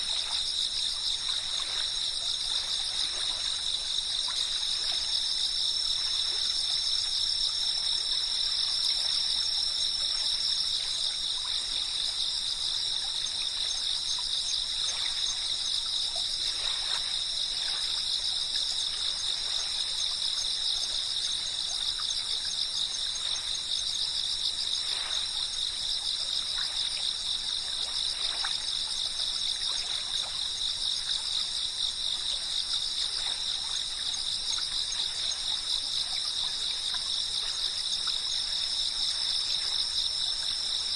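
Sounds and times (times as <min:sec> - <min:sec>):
insects chirping drone: 0:00.0 - 0:40.9.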